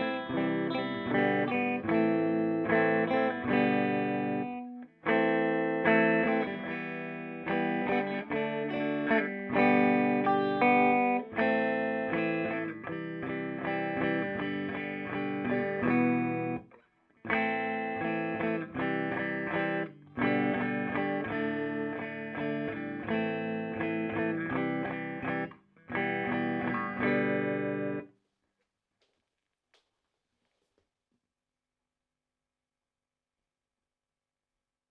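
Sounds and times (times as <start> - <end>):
clean electric guitar: 0.0 - 28.1.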